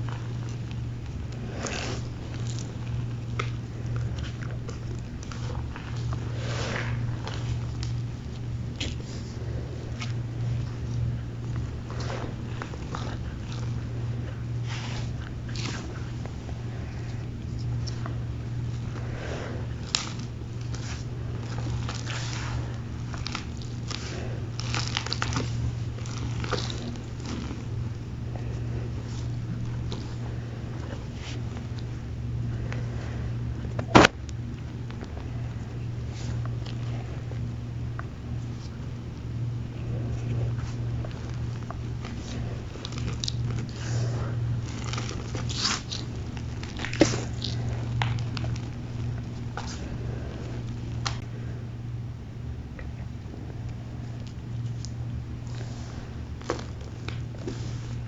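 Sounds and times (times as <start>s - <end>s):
chalk crunching and crackling: 0.0s - 51.3s, 53.6s - 58.0s
steady low hum: 0.0s - 58.0s.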